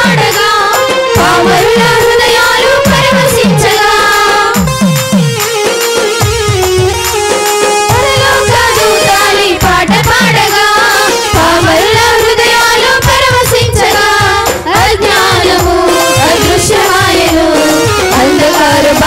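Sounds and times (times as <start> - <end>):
women singing into microphones: 0.0 - 4.8, 7.9 - 19.0
instrumental accompaniment: 0.0 - 19.0
steady percussion beat: 0.0 - 19.0.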